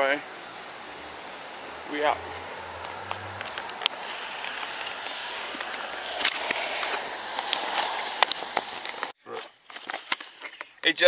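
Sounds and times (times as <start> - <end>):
steady outdoor noise: 0.0 - 11.0.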